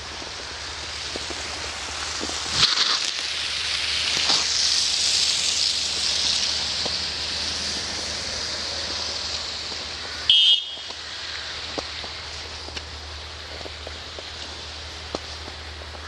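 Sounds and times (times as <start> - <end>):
footsteps in snow: 0.0 - 16.0
steady outdoor hiss: 0.0 - 16.0.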